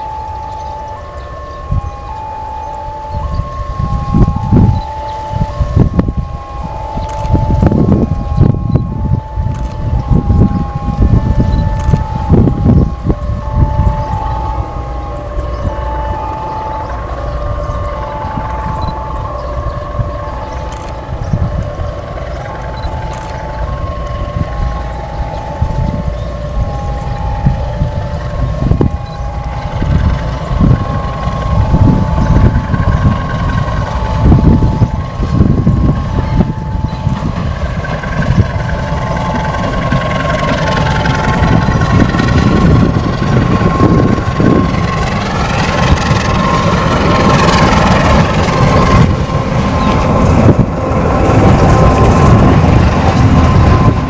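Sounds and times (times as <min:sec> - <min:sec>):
steady high tone: 0:00.0 - 0:54.0
train rumbling past: 0:00.0 - 0:54.0
two-note beeping: 0:00.0 - 0:54.0.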